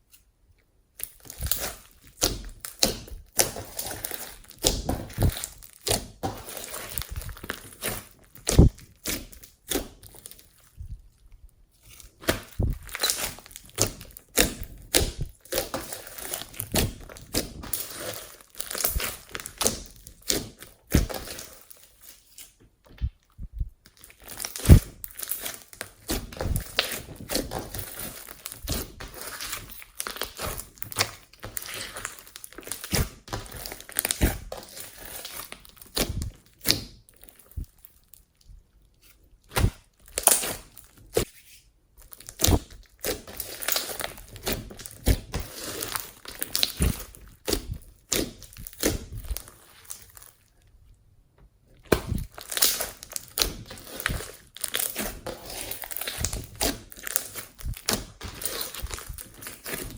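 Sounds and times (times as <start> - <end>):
slime squished by hand: 1.0 - 10.9, 11.8 - 23.2, 23.9 - 37.8, 39.0 - 41.4, 42.0 - 50.5, 51.8 - 59.9.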